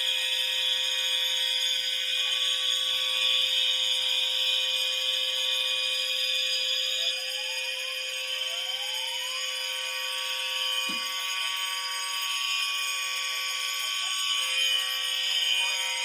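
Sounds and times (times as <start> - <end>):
fire alarm horns sounding: 0.0 - 16.0.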